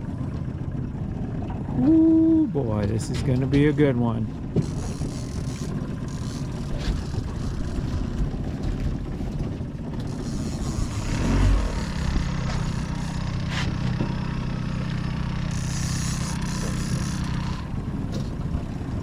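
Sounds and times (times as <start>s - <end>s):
boat motor running: 0.0s - 19.0s
wind and water rumble: 0.0s - 19.0s.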